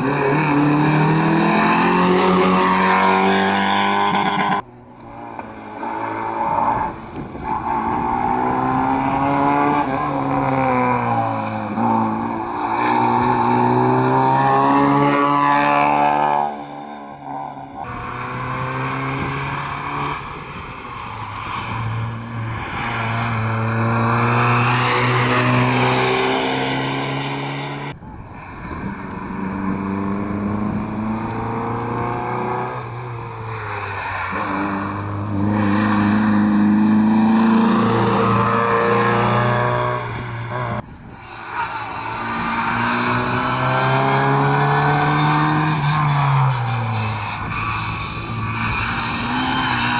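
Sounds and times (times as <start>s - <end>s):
rally car engines accelerating: 0.0s - 49.9s.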